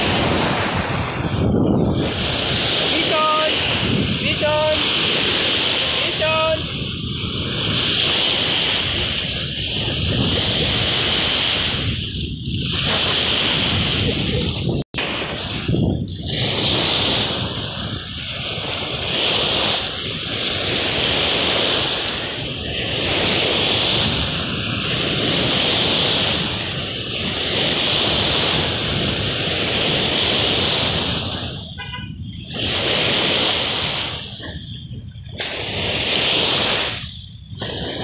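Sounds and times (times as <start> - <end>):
waves breaking against shore: 0.0 - 38.0.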